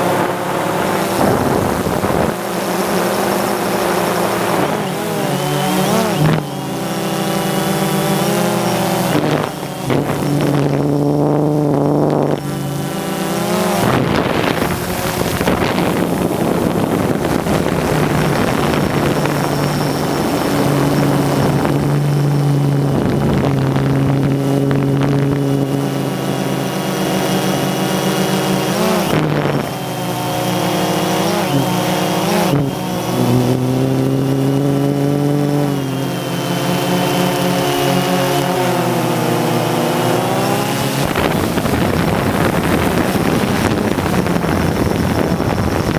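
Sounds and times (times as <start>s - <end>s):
drone propellers buzzing: 0.0s - 45.9s.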